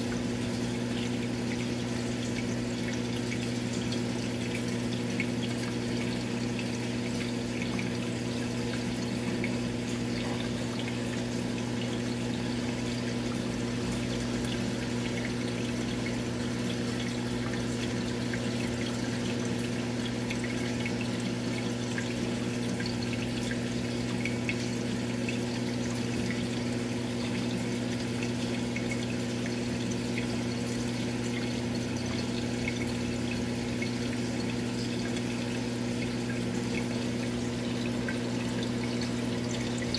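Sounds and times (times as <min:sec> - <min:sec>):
aquarium pump humming: 0:00.0 - 0:39.9
water trickling: 0:00.0 - 0:39.9.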